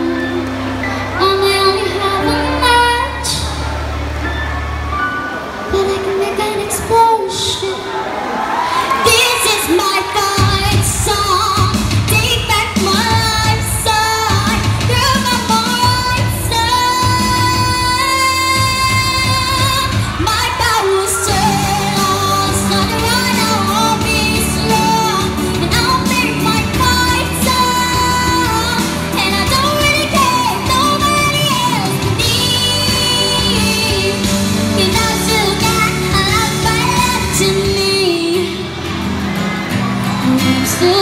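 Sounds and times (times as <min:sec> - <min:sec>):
girl singing into a microphone: 0:00.0 - 0:03.6, 0:05.7 - 0:07.8, 0:09.0 - 0:38.7, 0:40.2 - 0:41.0
backing music: 0:00.0 - 0:41.0.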